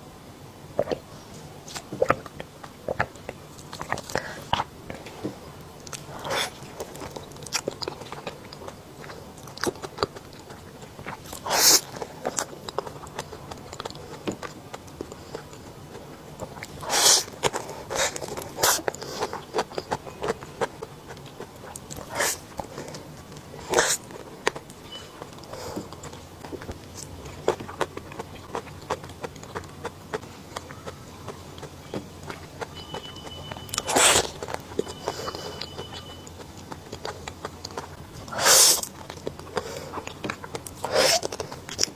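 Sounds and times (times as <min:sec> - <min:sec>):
person chewing crunchy food: 0:00.8 - 0:41.9.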